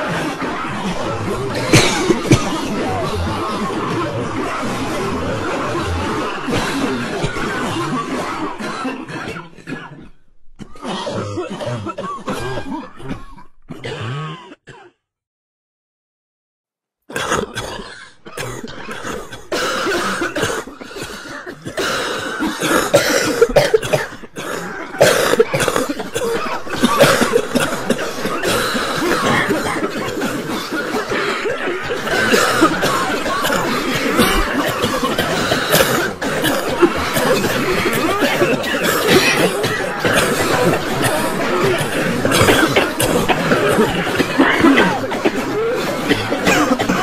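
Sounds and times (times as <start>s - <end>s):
crowd coughing: 0.0s - 15.0s, 17.1s - 47.0s.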